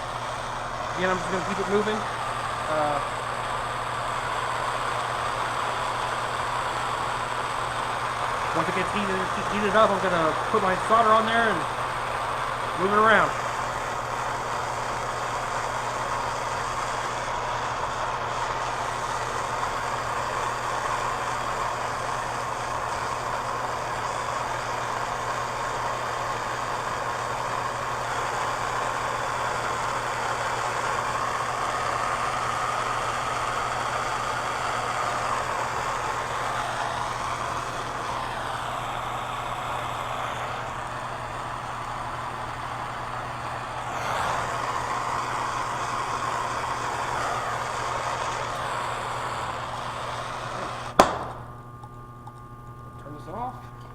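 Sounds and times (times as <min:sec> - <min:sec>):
torch flame hissing: 0:00.0 - 0:51.6.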